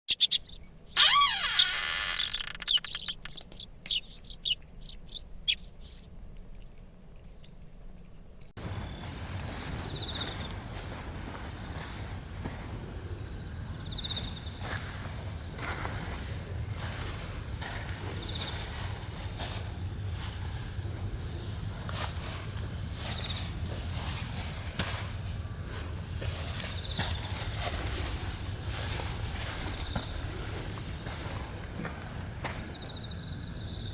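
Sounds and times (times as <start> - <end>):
insects chirping: 0.1 - 6.1, 8.6 - 33.9.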